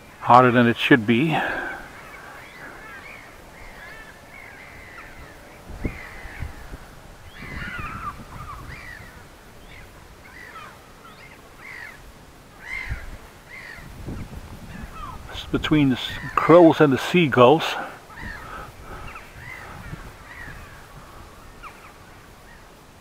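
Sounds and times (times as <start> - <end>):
crows and seagulls calling: 1.2 - 15.3, 16.0 - 22.8.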